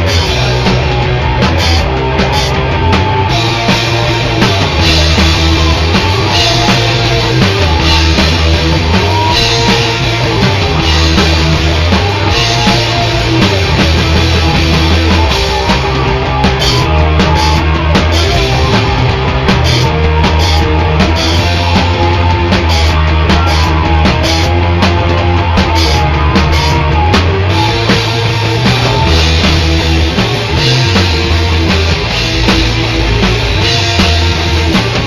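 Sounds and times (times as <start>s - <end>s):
loud rock music: 0.0s - 35.0s.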